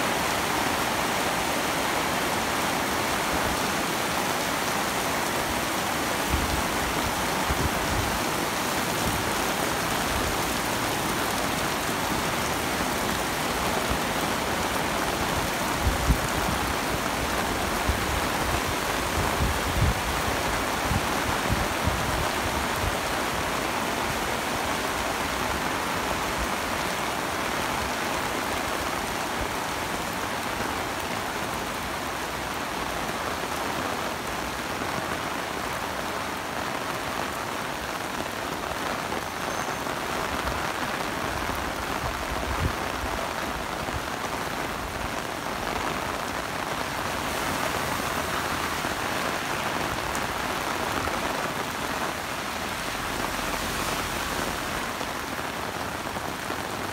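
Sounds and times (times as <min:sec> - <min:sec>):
heavy rain on pavement: 0:00.0 - 0:56.9.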